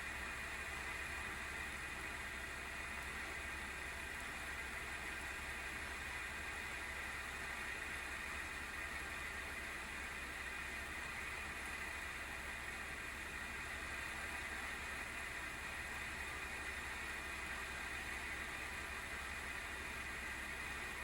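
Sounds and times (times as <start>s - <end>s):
graphics card fan whirring: 0.0s - 21.0s.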